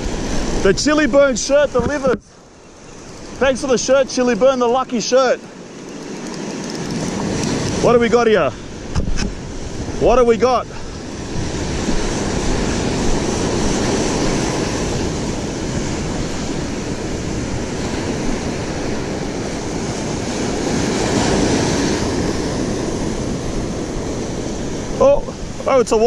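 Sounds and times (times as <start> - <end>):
surf washing up beach: 0.0 - 26.0
wind rumbling on microphone: 0.0 - 26.0.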